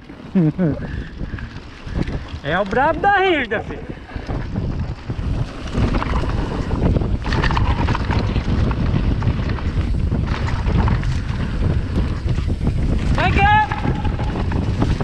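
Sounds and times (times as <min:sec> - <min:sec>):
crackles and scrapes: 0:00.0 - 0:15.0
wind buffeting microphone: 0:00.0 - 0:15.0.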